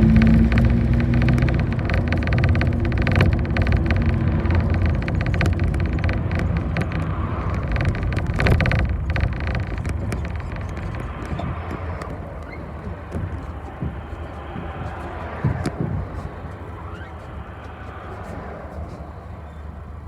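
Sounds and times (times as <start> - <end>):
small rattles and clicks: 0.0 - 19.6
bus engine and road noise: 0.0 - 20.0.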